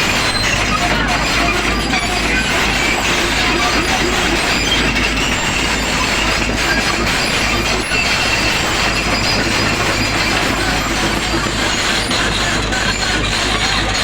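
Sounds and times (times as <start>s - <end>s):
diesel engine running: 0.0s - 14.0s
high-pitched squeals: 0.0s - 14.0s.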